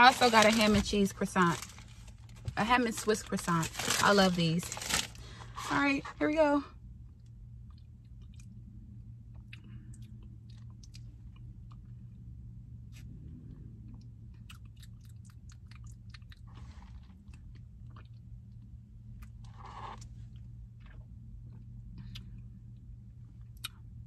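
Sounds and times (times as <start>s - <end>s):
low hum in car: 0.0s - 24.0s.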